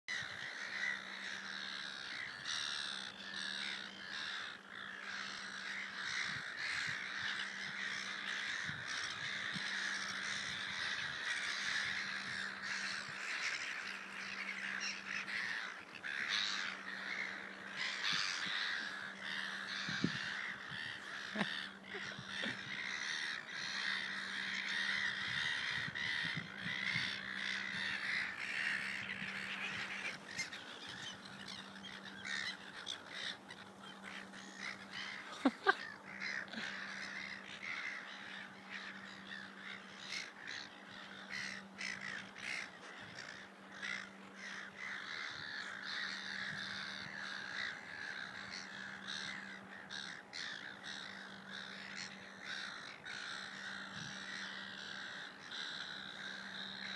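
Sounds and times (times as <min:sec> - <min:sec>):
gulls squawking: 0:00.1 - 0:56.9
steady low hum: 0:00.1 - 0:56.9.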